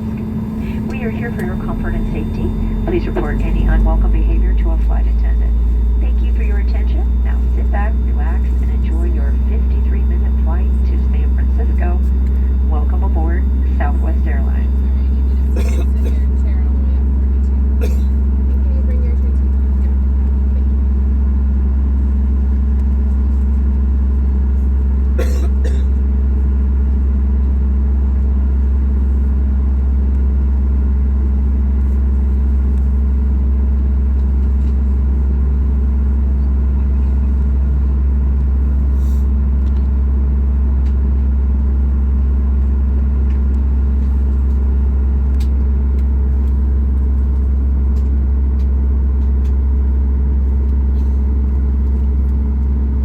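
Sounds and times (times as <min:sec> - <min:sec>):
aircraft cabin drone: 0:00.0 - 0:53.0.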